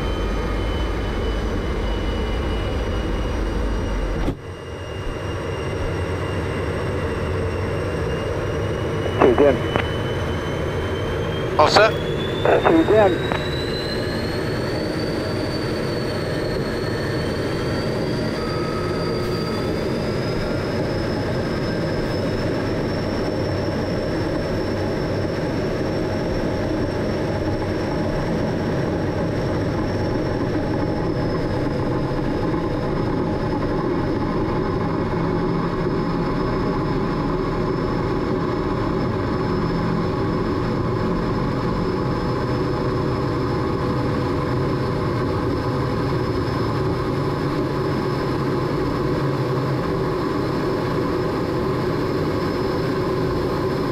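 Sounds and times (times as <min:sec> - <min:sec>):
jet engine rush and whine: 0:00.0 - 0:53.9.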